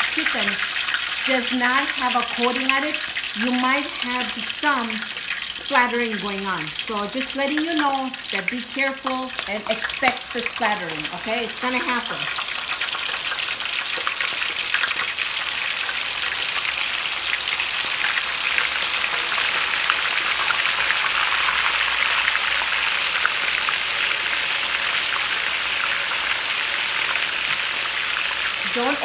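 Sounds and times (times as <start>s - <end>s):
chicken deep-frying in oil: 0.0s - 29.0s
oil crackling and popping: 0.0s - 29.0s.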